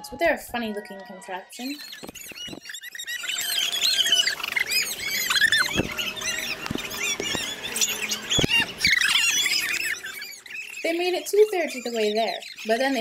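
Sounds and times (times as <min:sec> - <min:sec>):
children shrieking and squealing: 0:00.0 - 0:13.0.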